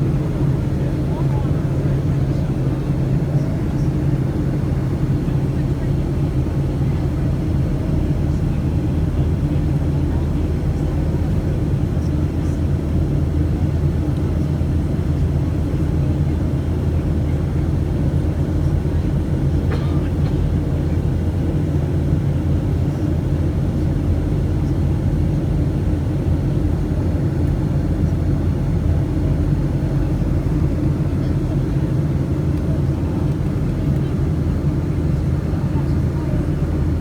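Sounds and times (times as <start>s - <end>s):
airplane cabin engine rumble: 0.0s - 37.0s
constant low hum: 0.0s - 37.0s.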